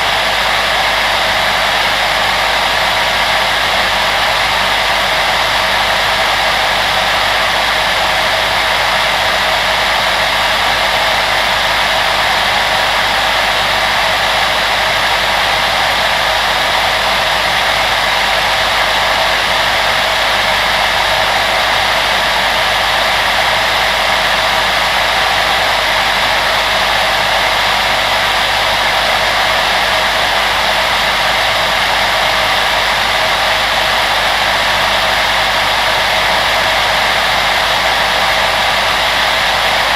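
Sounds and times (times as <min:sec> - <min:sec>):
electric blower fan rushing: 0:00.0 - 0:39.9.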